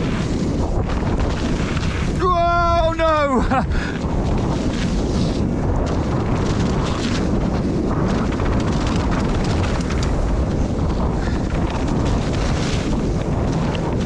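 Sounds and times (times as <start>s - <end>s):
bike knocks and rattles: 0.0s - 2.8s, 3.8s - 14.0s
bike tyre noise: 0.0s - 14.0s
wind on microphone: 0.0s - 14.0s.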